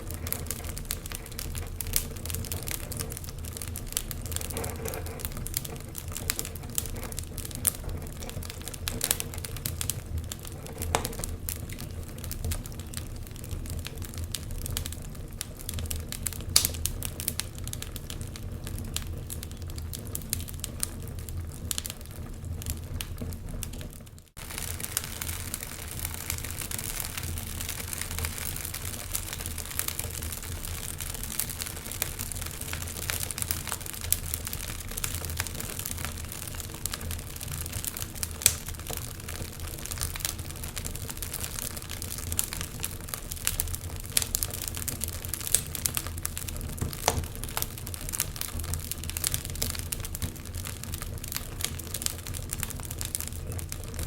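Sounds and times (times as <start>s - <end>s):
low steady fire rumble: 0.0s - 54.0s
wood fire crackling and popping: 0.0s - 54.0s.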